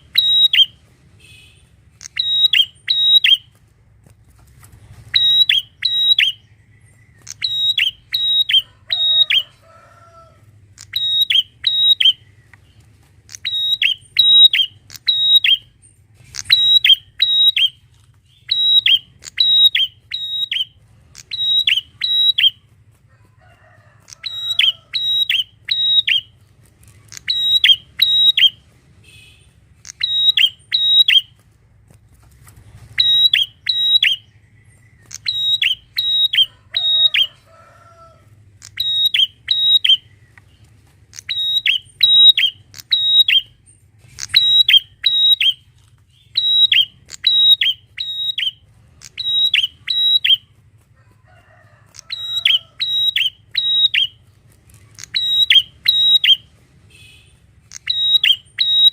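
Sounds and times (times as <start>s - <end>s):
bird chirping sharply: 0.0s - 3.5s, 5.0s - 9.5s, 10.7s - 22.6s, 24.2s - 26.4s, 27.0s - 31.3s, 32.7s - 37.3s, 38.6s - 50.5s, 52.0s - 54.2s, 55.0s - 58.9s.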